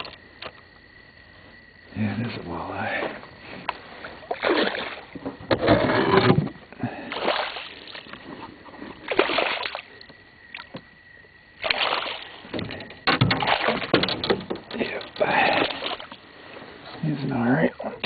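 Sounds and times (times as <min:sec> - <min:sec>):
water splashing and sloshing: 0:02.8 - 0:18.0.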